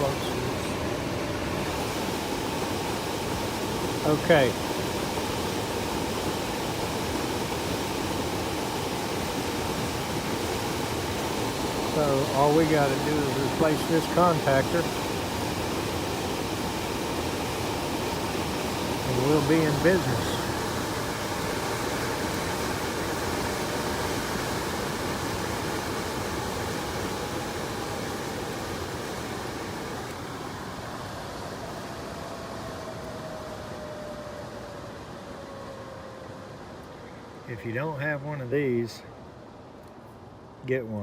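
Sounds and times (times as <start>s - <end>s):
air handler rushing air: 0.0s - 37.5s
faint steady tone: 0.0s - 41.0s
heat pump airflow and hum: 0.0s - 41.0s.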